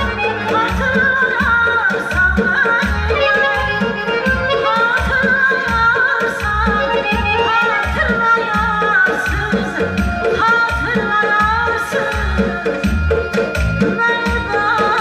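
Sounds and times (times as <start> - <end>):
instrumental backing music: 0.0 - 15.0
woman singing: 0.0 - 15.0.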